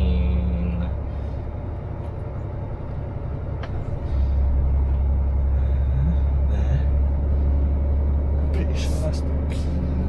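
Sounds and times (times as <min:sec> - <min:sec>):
lorry diesel engine rumble: 0:00.0 - 0:10.0.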